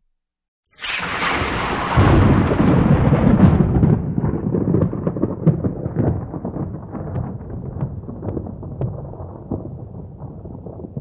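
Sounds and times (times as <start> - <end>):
thunder crash and rumble: 0.8 - 11.0.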